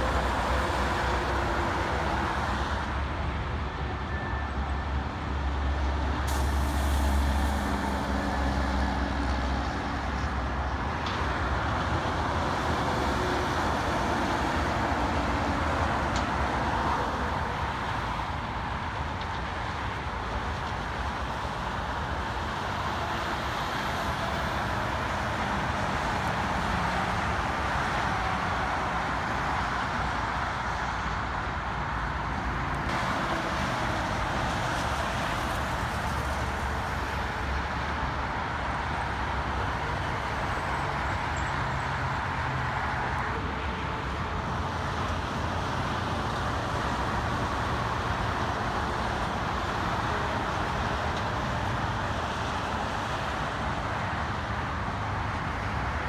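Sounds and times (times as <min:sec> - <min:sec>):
heavy truck engines humming: 0:00.0 - 0:56.0
rush of tyres on highway: 0:00.0 - 0:56.0.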